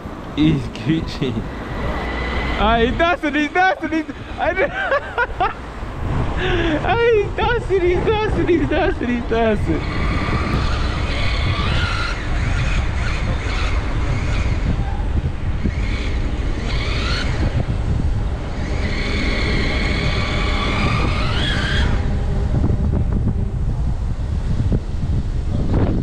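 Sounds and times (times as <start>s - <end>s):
wind buffeting microphone: 0.0s - 26.0s
electric motor whine: 1.4s - 6.5s, 7.8s - 25.9s.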